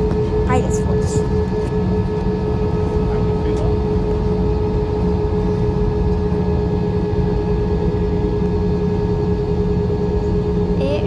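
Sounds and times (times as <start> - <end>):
jet engines low rumble: 0.0 - 11.0
steady humming whine: 0.0 - 11.0.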